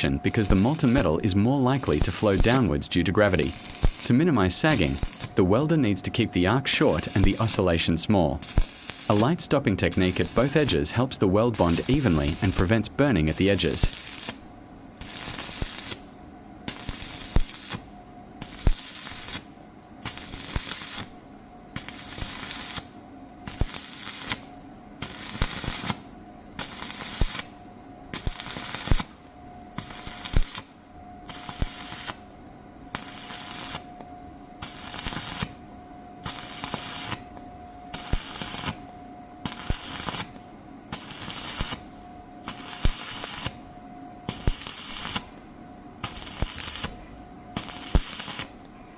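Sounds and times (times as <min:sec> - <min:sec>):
welding arc crackling: 0:00.0 - 0:34.0, 0:34.6 - 0:35.6, 0:36.2 - 0:45.4, 0:46.0 - 0:48.6
sharp welding pops: 0:00.0 - 0:48.7.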